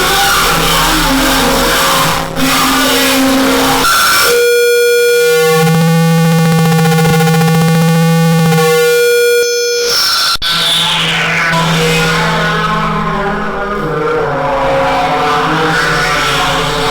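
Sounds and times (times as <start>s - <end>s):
loud drone of stacked tones: 0.0s - 16.9s.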